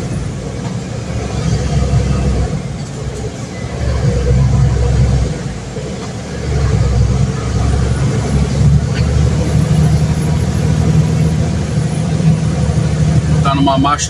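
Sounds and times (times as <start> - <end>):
truck diesel engine pulling: 0.0 - 14.0.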